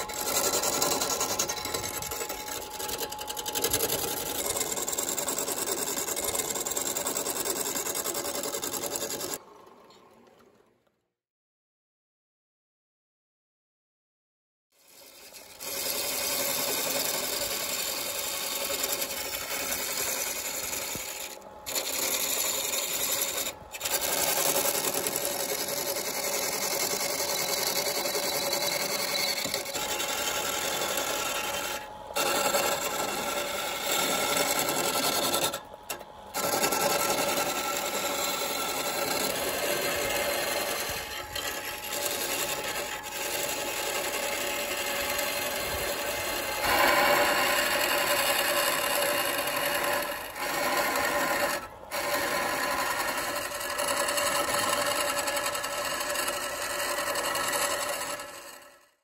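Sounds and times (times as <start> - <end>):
lathe tool shaving wood: 0.0 - 9.4, 14.8 - 58.9.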